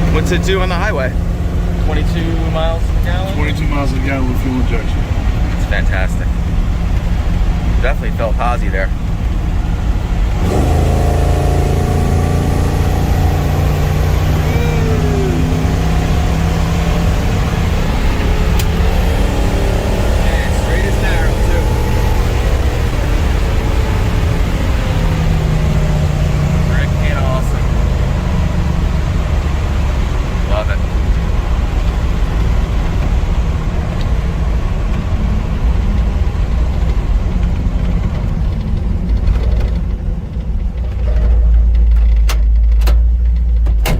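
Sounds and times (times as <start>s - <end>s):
truck engine running: 0.0s - 43.8s
road noise: 0.0s - 43.9s.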